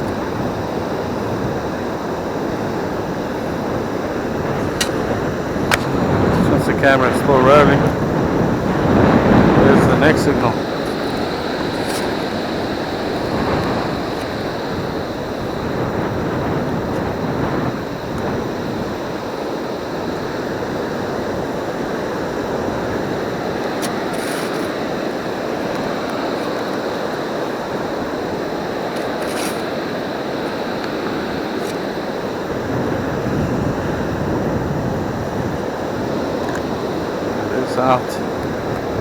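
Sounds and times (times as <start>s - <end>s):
surf washing: 0.0s - 39.0s.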